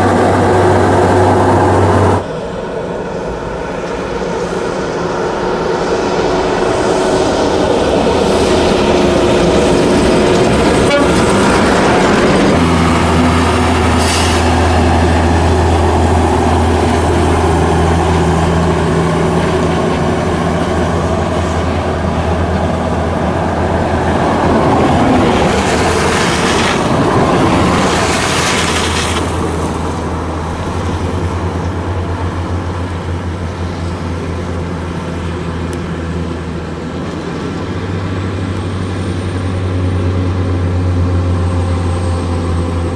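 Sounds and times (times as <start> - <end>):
diesel truck engines droning: 0.0 - 42.9
trucks passing: 0.0 - 42.9.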